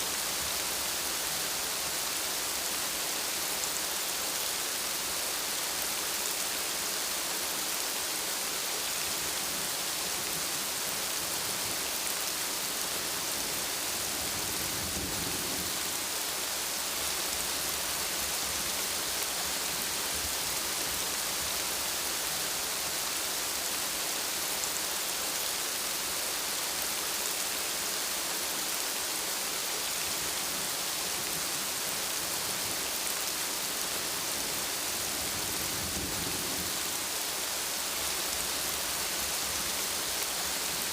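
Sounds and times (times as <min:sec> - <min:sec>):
heavy rain on surfaces: 0:00.0 - 0:40.9.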